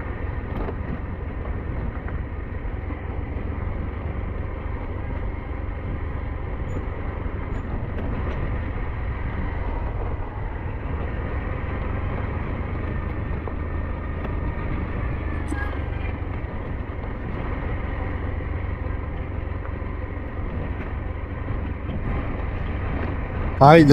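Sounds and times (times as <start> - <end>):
motorcycle engine running: 0.0 - 23.9
road and wind noise: 0.0 - 23.9.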